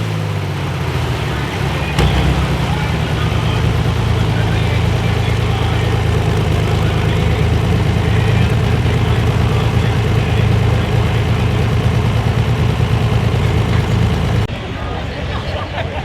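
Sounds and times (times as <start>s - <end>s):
tractor engine running steadily: 0.0s - 14.6s.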